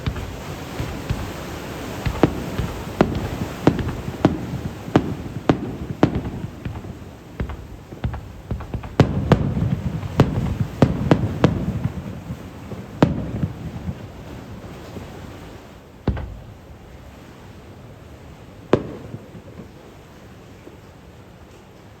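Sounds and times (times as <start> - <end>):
fireworks bursting with rumbling echo: 0.0 - 20.6.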